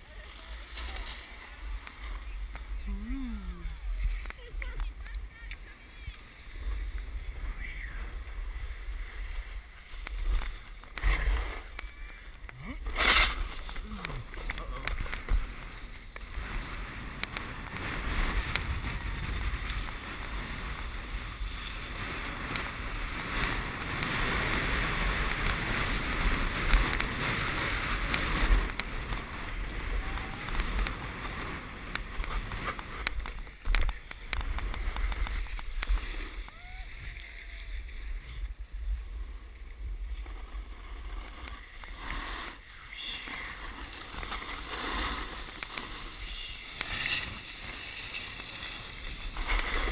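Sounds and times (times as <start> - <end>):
snowboard scraping over snow: 0.0 - 49.9
wind on microphone: 0.1 - 49.9.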